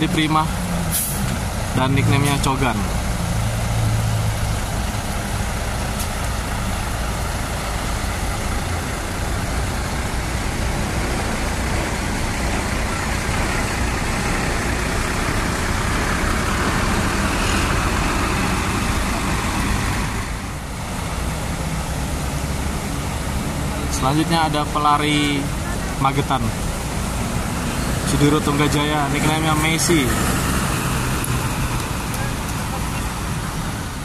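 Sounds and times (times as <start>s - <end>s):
diesel bus engine rumble: 0.0s - 34.0s
rushing noise: 0.0s - 34.0s.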